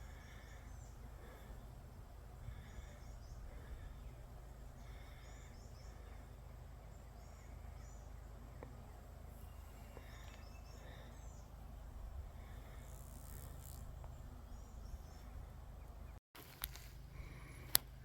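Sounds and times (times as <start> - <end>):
low outdoor rumble: 0.0 - 18.0
songbirds chirping: 0.0 - 18.0.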